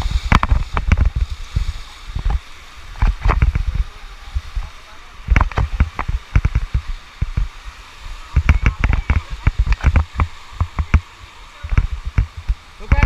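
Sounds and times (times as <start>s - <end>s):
water splashing on microphone: 0.0s - 13.0s.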